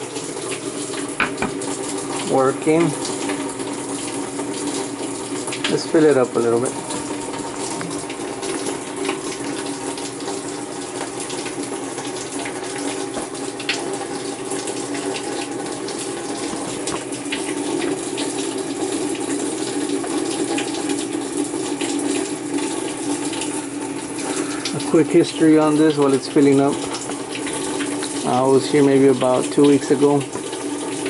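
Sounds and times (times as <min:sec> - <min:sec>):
water rushing into washer tub: 0:00.0 - 0:31.0.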